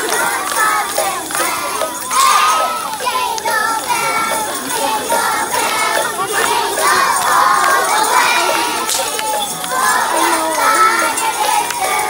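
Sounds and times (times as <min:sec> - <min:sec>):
jingle bells shaking: 0:00.0 - 0:12.0
young children singing: 0:00.0 - 0:12.0.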